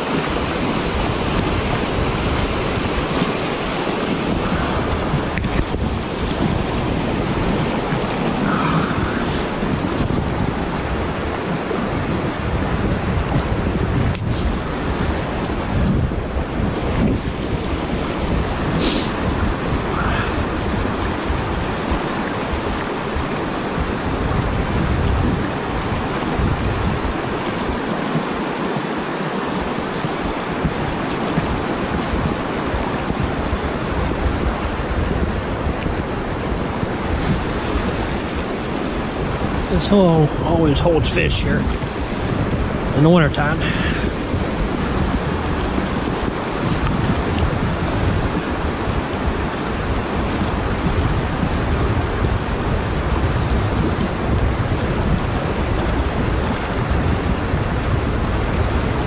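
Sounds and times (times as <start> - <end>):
water rushing over dam spillway: 0.0 - 59.0
wind buffeting microphone: 0.0 - 59.0.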